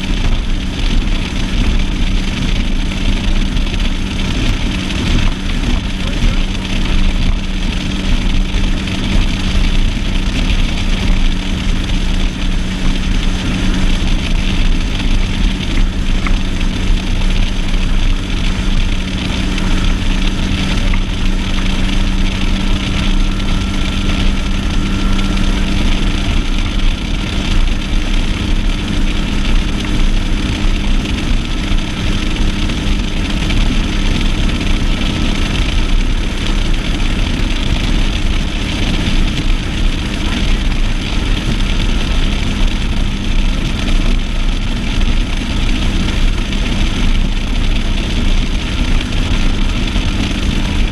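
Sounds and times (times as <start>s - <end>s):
outboard motor running: 0.0s - 50.9s
rushing water noise: 0.0s - 50.9s.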